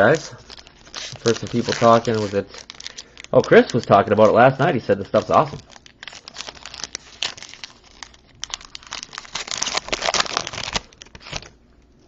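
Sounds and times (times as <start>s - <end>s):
crinkly wrapper torn open: 0.0s - 4.3s, 5.0s - 11.6s.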